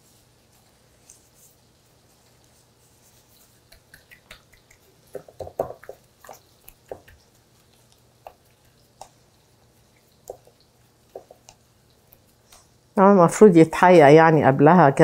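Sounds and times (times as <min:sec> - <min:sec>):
wet squishes: 0:00.5 - 0:13.0.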